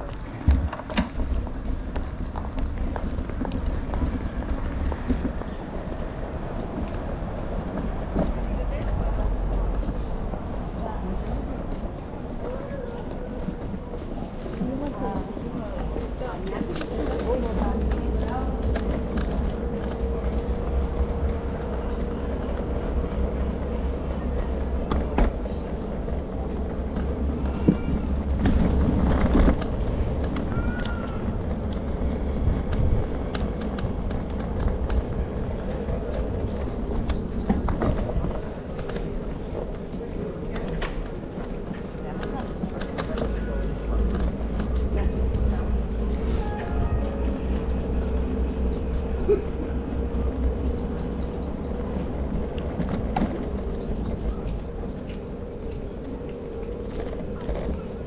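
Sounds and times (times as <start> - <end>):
low rumble of road traffic: 0.0 - 58.0.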